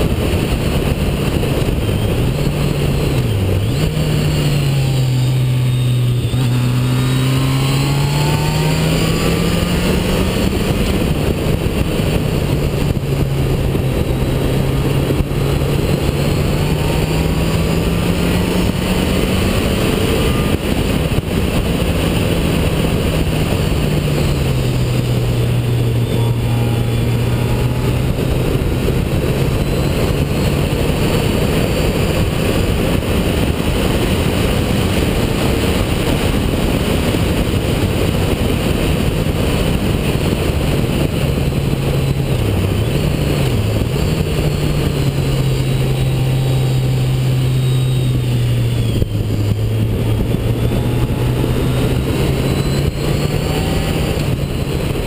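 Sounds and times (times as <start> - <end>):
motorcycle engine at speed: 0.0 - 55.0
wind and road rush: 0.0 - 55.0.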